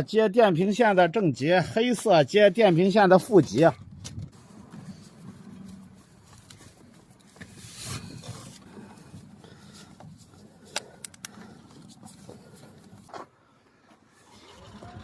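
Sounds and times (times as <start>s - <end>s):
handling noises: 2.0s - 14.1s.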